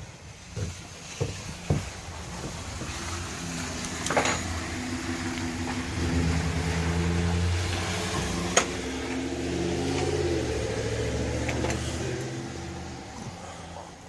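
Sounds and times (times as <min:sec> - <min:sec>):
steady engine hum: 0:00.1 - 0:14.0.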